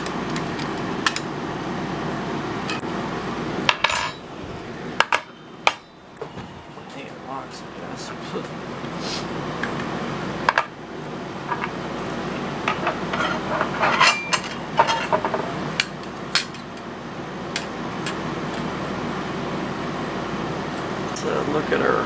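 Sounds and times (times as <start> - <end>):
background hum: 0.0 - 22.0.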